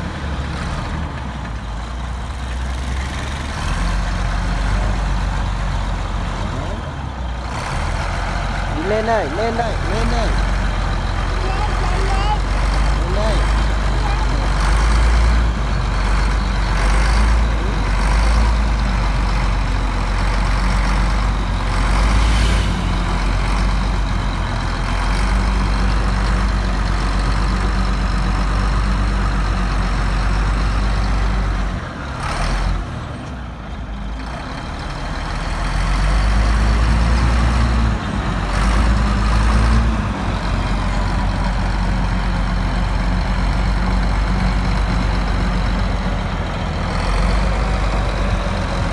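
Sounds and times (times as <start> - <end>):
bulldozer diesel engine rumbling: 0.0 - 48.9.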